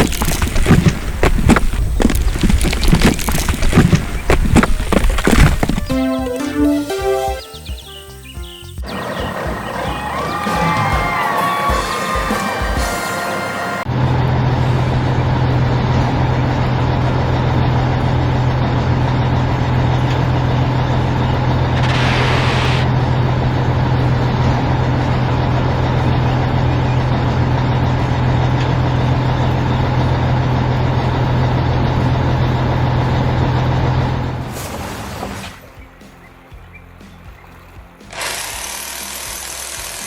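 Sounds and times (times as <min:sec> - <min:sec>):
heavy diesel engine humming: 0:00.0 - 0:34.7.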